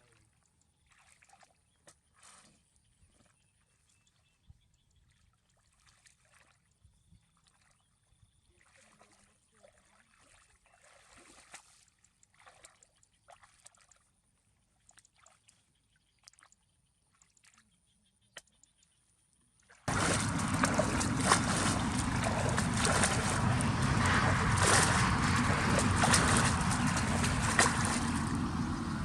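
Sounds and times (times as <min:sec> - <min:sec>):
water sloshing and trickling: 0:00.0 - 0:18.6, 0:19.5 - 0:29.0.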